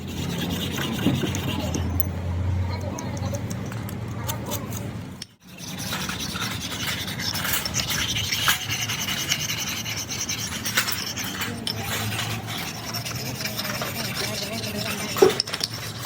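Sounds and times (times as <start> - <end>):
rasping scraping noise: 0.0 - 2.1, 4.3 - 16.0.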